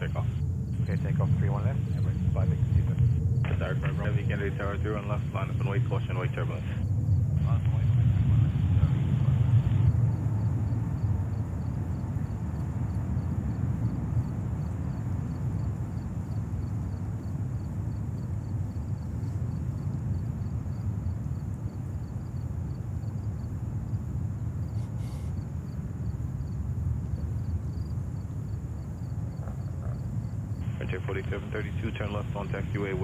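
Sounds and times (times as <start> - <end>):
jet engines rumbling at takeoff: 0.0 - 33.0.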